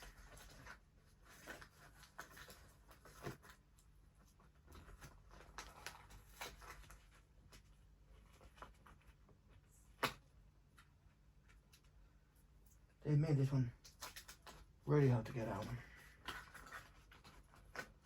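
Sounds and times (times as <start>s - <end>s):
clicks and rustles of a box: 0.0s - 12.0s, 13.8s - 18.0s.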